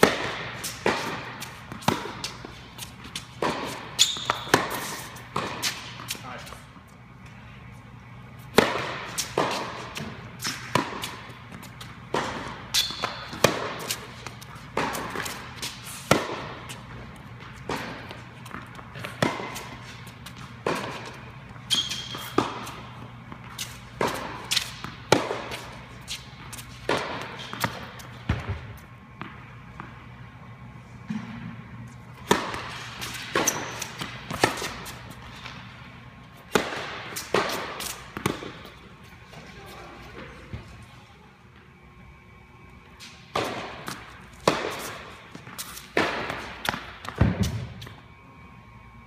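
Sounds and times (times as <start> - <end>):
tennis balls struck by racquets: 0.0 - 6.4, 8.0 - 30.3, 31.0 - 39.0, 43.0 - 48.0
balls bouncing on hard court: 0.0 - 6.6, 8.4 - 30.2, 31.0 - 35.7, 36.4 - 38.9, 43.0 - 48.0
steady low hum: 0.0 - 49.0.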